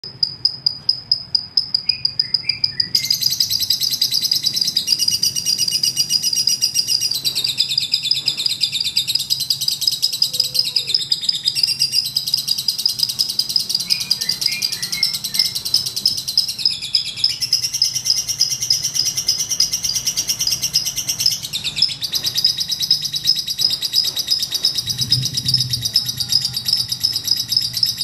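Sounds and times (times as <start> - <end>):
lovebird chattering trill: 0.0 - 28.0.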